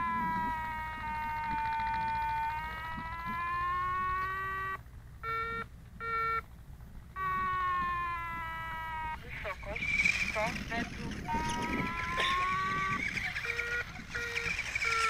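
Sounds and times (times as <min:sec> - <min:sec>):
electronic tone sliding in pitch: 0:00.0 - 0:06.4, 0:07.2 - 0:15.0.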